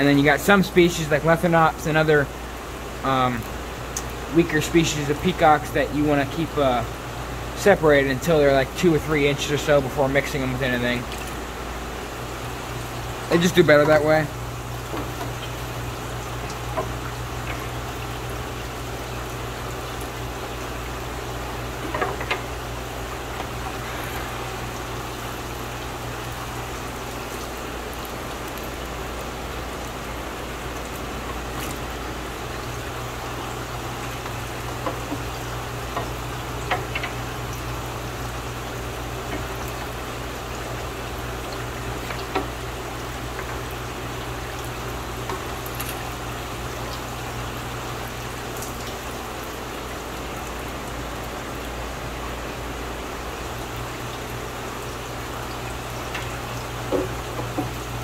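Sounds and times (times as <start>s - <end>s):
low steady hum: 0.0s - 58.0s
water trickling and bubbling: 0.0s - 58.0s
water splashing: 7.6s - 58.0s.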